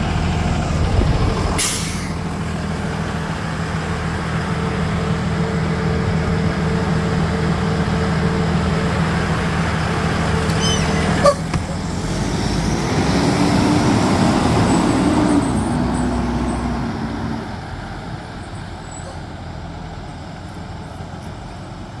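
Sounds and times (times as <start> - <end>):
bus engine pulling away: 0.0 - 22.0.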